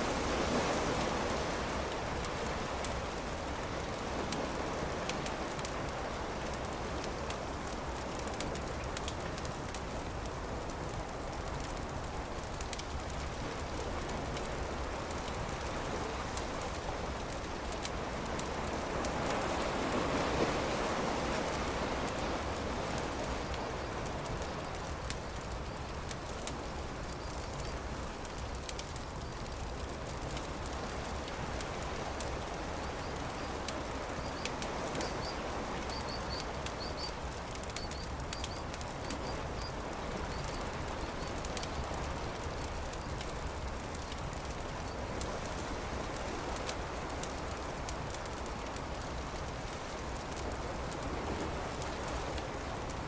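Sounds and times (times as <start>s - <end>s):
steady rushing hiss: 0.0s - 53.0s
campfire crackling and popping: 0.1s - 53.0s.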